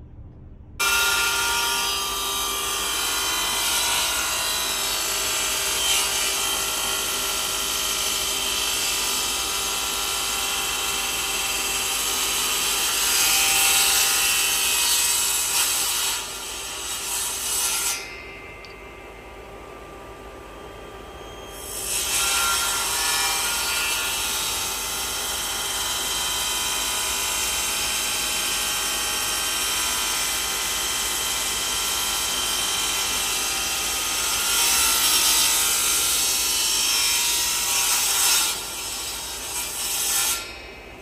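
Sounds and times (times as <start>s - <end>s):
band saw cutting wood: 0.8s - 18.2s, 21.1s - 40.6s.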